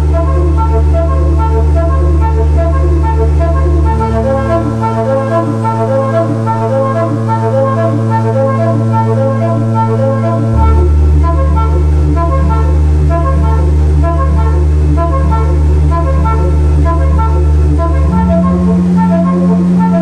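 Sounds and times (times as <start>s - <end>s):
church organ playing: 0.0s - 20.0s.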